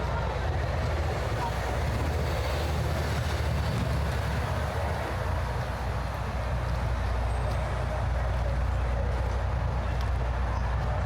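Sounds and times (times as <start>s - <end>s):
rumble of passing traffic: 0.0s - 11.0s.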